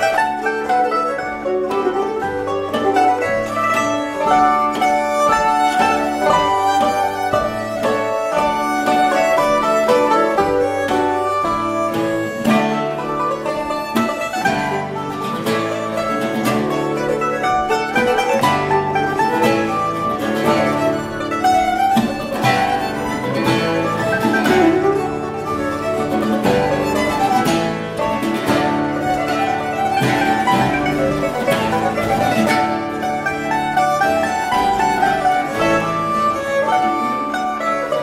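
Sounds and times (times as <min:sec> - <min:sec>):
bowed viol: 0:00.0 - 0:38.0
harpsichord: 0:00.0 - 0:38.0
mandolin plucking: 0:00.0 - 0:38.0.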